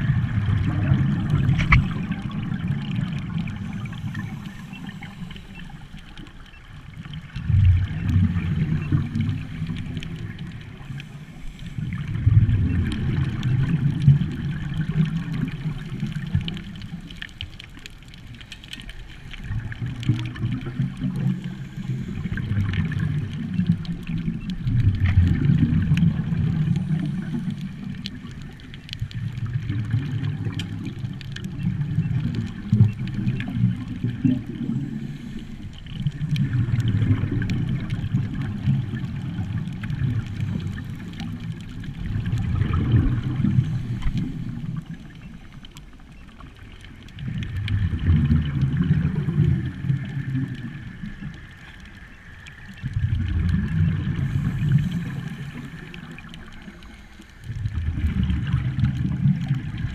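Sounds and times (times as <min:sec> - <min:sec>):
scuba regulator bubbles gurgling: 0:00.0 - 0:59.9.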